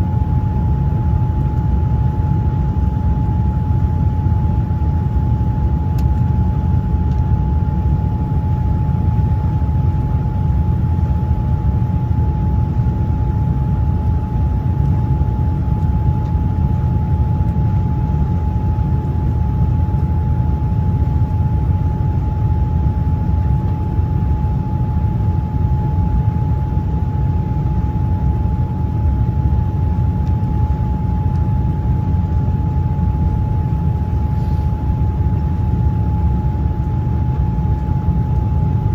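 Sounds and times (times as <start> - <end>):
constant high hum: 0.0 - 38.9
engine and airflow rumble: 0.0 - 38.9.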